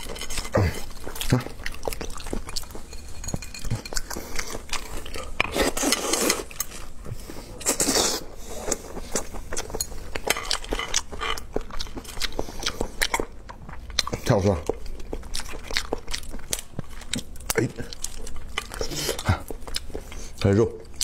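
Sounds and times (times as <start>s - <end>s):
chewing: 0.0s - 21.0s.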